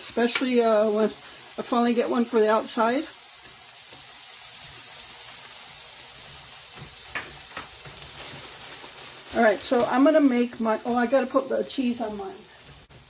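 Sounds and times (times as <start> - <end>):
patties sizzling on a griddle: 0.0 - 13.0.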